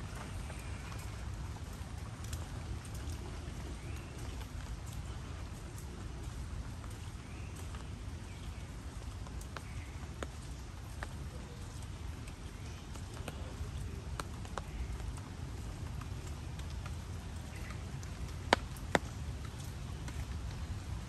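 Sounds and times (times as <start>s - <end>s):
footsteps on wet paving: 0.0s - 21.0s
rainwater dripping: 0.0s - 21.0s.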